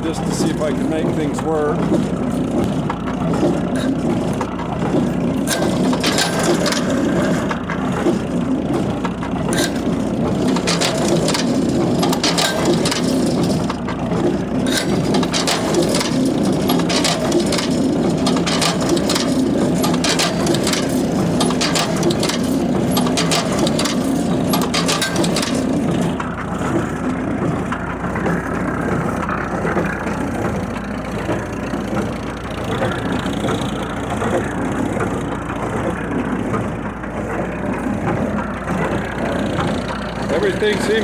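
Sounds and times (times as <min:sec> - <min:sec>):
engine drone: 0:00.0 - 0:41.0
hay baler clanking: 0:00.0 - 0:41.0.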